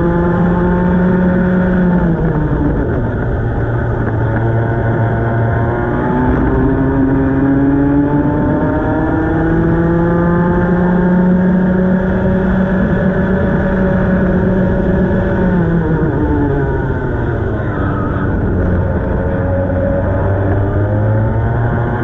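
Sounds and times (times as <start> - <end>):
kart engine accelerating: 0.0 - 22.0.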